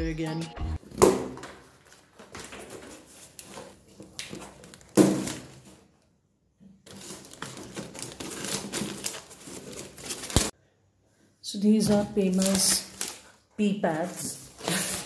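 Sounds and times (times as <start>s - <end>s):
cardboard and plastic rustling: 0.8s - 6.1s, 6.8s - 10.5s, 11.7s - 15.0s.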